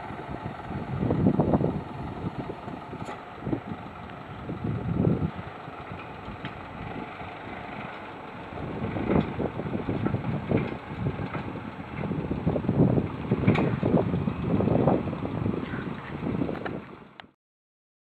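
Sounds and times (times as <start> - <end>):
wind buffeting microphone: 0.0 - 17.2
truck engine running: 0.0 - 17.3.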